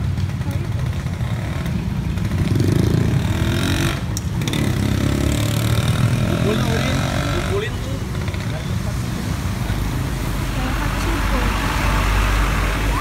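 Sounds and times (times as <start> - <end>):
low traffic rumble: 0.0 - 13.0
motorcycles accelerating past: 0.0 - 13.0.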